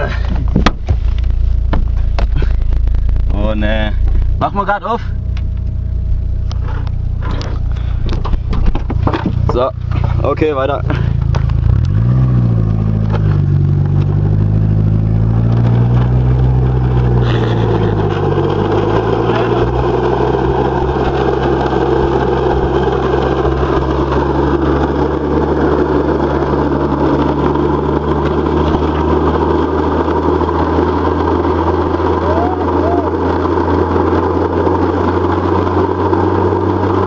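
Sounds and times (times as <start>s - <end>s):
car engine running: 0.0s - 37.0s
tyre road and wind noise: 0.0s - 37.0s.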